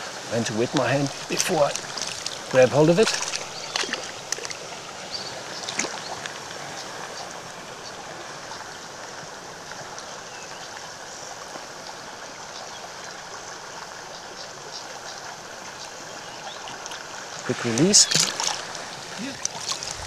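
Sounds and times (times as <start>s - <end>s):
stream running over stones: 0.0s - 20.0s.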